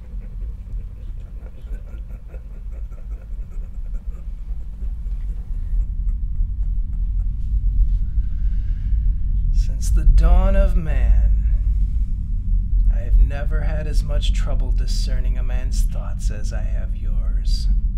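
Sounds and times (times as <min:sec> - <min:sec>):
deep ominous low rumble: 0:00.0 - 0:17.9.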